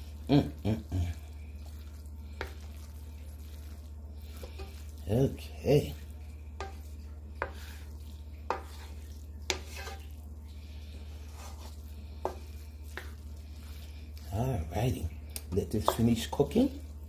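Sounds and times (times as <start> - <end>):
steady low hum: 0.0 - 17.0
wooden spatula stirring rice in pan: 0.0 - 17.0.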